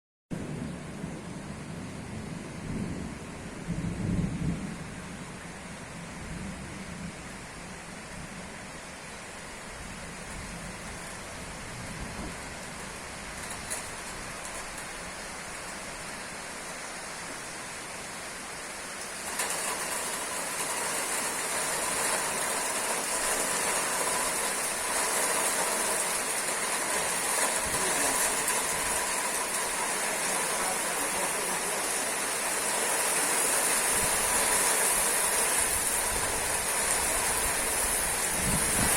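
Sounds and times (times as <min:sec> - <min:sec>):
rain pouring: 0:00.3 - 0:38.9.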